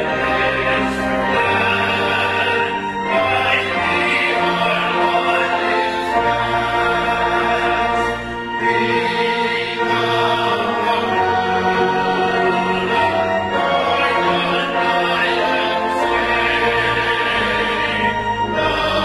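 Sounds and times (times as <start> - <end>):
group singing a hymn: 0.0 - 19.0
instrumental accompaniment: 0.0 - 19.0.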